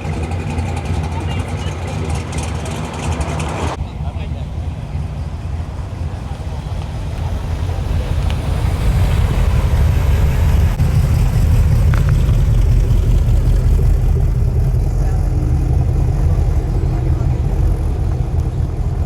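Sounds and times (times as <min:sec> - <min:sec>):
car engine and exhaust rumbling: 0:00.0 - 0:19.0.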